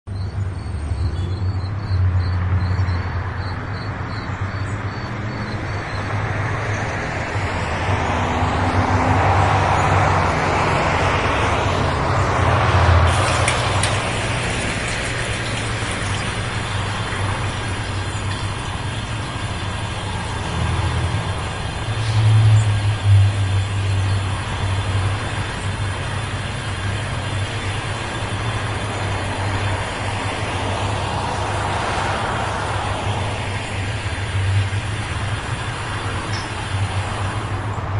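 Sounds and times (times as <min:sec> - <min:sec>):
large vehicle rumbling: 0:00.0 - 0:37.9.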